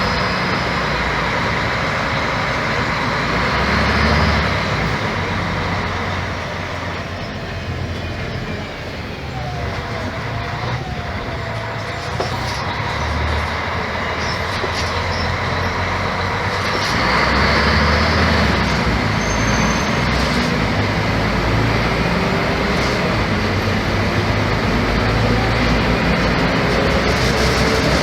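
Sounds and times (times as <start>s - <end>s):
bus diesel engine running: 0.0s - 28.0s
road noise: 0.0s - 28.0s.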